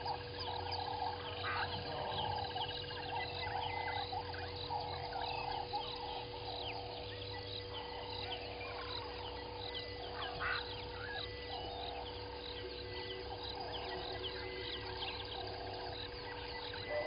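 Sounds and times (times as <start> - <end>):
birds chirping and whistling: 0.0 - 17.0
faint steady hum: 0.0 - 17.0
rasping bird call: 0.0 - 17.0.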